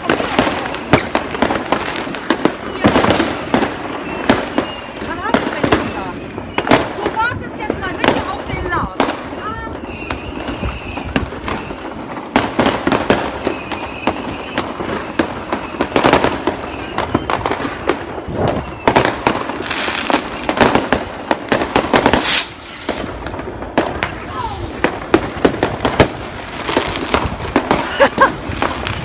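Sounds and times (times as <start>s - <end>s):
rising rocket whistle: 0.0s - 20.6s, 22.0s - 24.8s
fireworks bangs and crackling: 0.0s - 29.0s.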